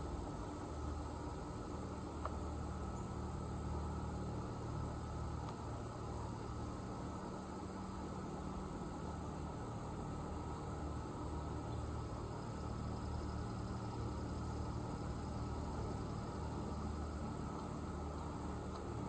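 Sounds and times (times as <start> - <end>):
crickets trilling: 2.7 - 19.0.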